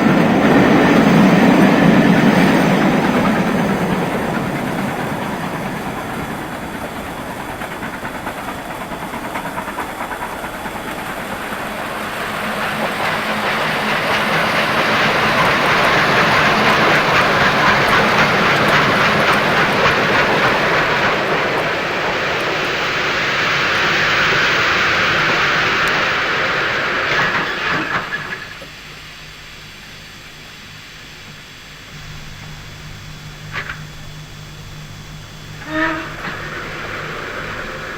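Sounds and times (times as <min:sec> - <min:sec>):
model train wheels rattling on rails: 0:00.0 - 0:28.7, 0:31.9 - 0:37.9.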